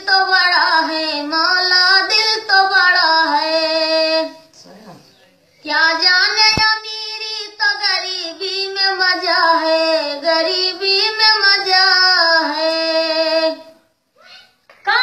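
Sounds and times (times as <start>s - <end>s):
woman singing unaccompanied: 0.0s - 4.5s, 5.6s - 13.8s.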